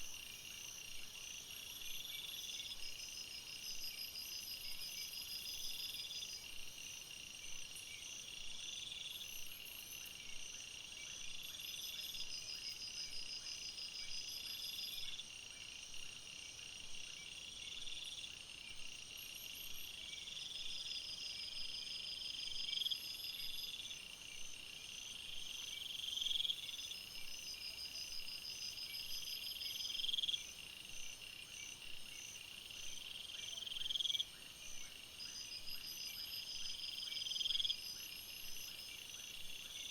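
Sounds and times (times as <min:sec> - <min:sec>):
insects chirping and trilling: 0:00.0 - 0:39.9.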